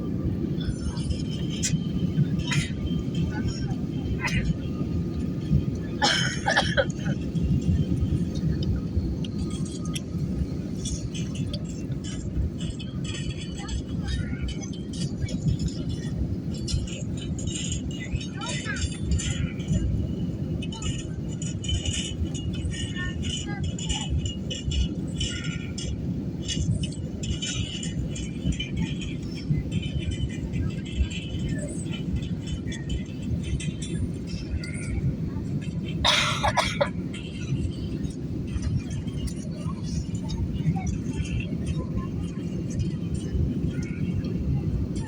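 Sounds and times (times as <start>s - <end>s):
jet engine rumble in cabin: 0.0s - 45.0s
voices: 0.0s - 45.0s.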